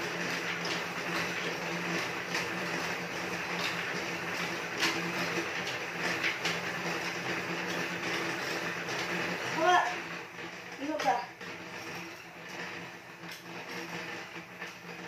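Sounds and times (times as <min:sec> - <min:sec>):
elliptical trainer mechanical hum: 0:00.0 - 0:15.0.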